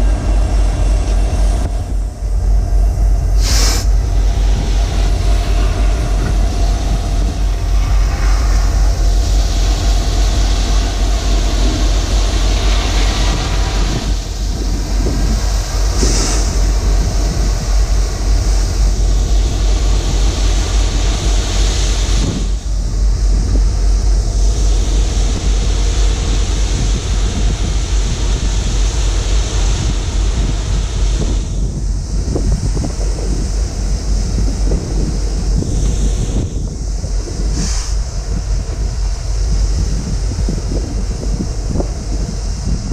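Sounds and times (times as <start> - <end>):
train cars rumbling on rails: 0.0 - 42.9.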